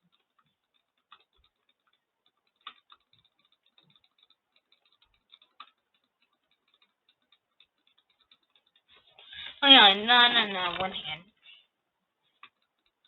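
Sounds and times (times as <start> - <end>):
computer mouse clicking rapidly: 0.0 - 11.0, 11.6 - 13.0.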